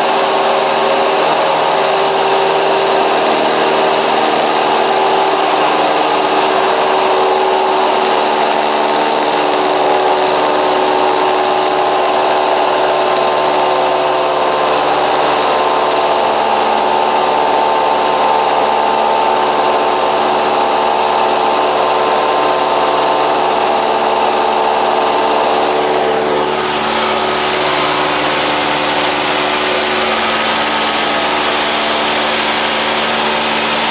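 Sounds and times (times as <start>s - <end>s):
propeller aircraft engine running: 0.0s - 33.9s.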